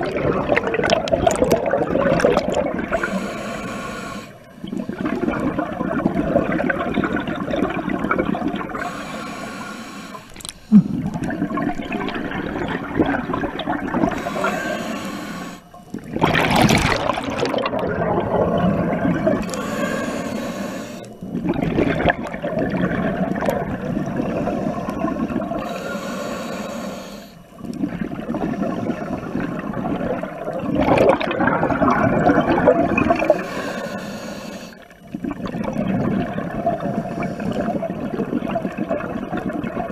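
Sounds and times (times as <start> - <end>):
diver exhaling bubbles underwater: 0.0 - 3.2, 4.7 - 8.9, 10.4 - 20.1, 21.1 - 25.7, 27.7 - 33.8, 35.0 - 39.9.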